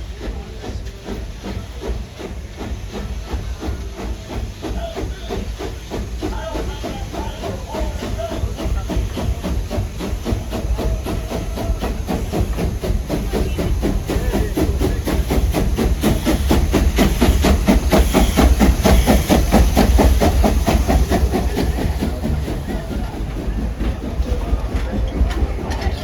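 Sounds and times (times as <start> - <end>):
low train rumble: 0.0 - 26.0
steam locomotive chuffing: 0.0 - 26.0.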